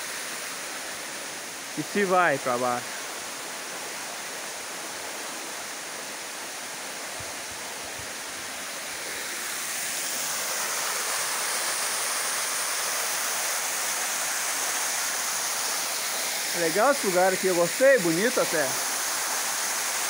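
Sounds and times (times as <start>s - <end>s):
water running over rocks: 0.0s - 20.0s.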